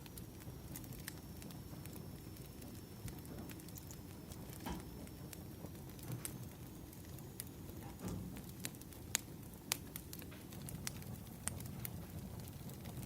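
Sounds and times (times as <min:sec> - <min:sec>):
firewood crackling and popping: 0:00.0 - 0:13.0
rustle of flames: 0:00.0 - 0:13.0.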